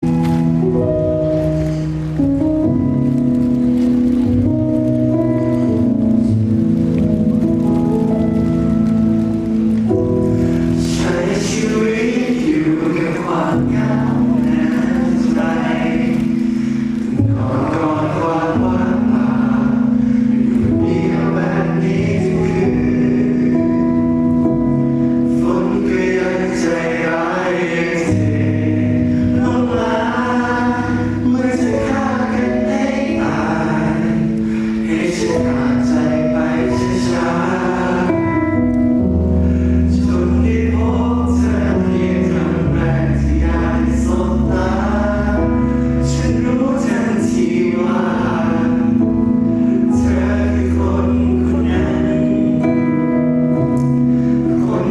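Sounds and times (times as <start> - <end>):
pop song over sound system: 0.0 - 54.9.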